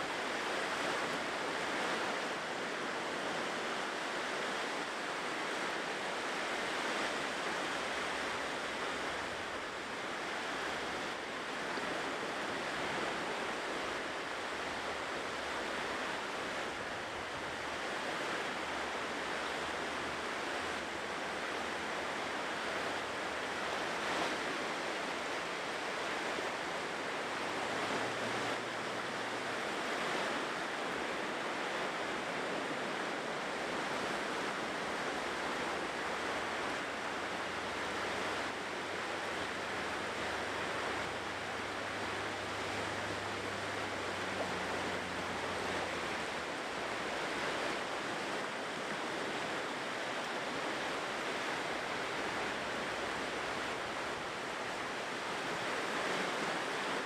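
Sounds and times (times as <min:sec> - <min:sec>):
ocean surf washing onto shore: 0:00.0 - 0:57.0.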